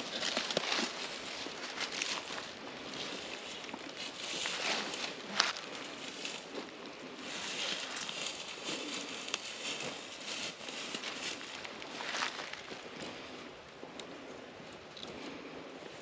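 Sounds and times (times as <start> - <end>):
dry leaves and twigs rustling: 0.0 - 16.0.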